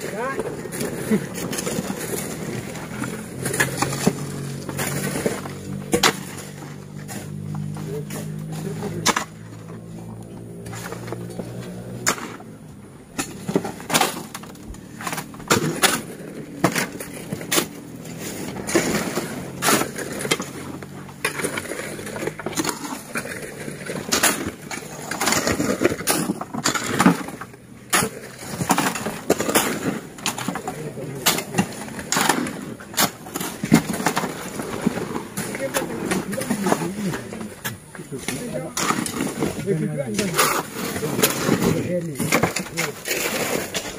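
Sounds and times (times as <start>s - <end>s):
shovels scraping sand and gravel: 0.0s - 43.9s.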